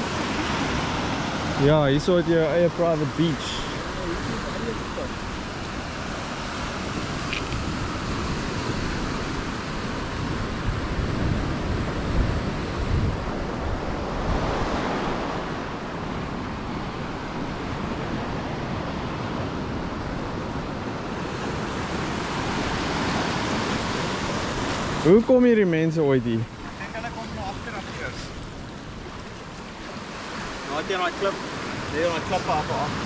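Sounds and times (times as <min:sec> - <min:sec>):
small waves breaking on shore: 0:00.0 - 0:33.0
wind gusting on microphone: 0:00.0 - 0:33.0.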